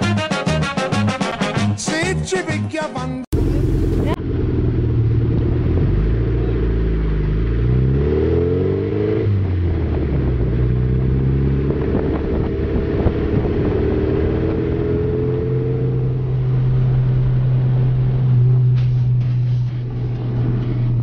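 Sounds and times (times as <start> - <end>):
car engine accelerating: 3.3 - 21.0
tyre and road noise: 3.3 - 21.0.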